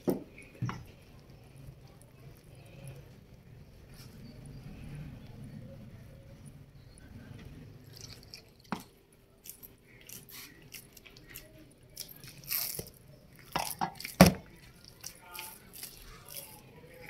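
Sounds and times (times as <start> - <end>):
hands kneading wet dough: 0.0 - 17.0.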